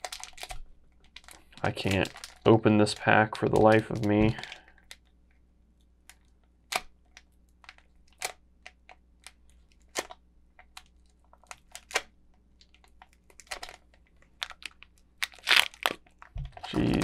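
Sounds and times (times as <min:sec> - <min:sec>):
foil wrapper crinkling: 0:00.0 - 0:05.1, 0:06.2 - 0:17.0.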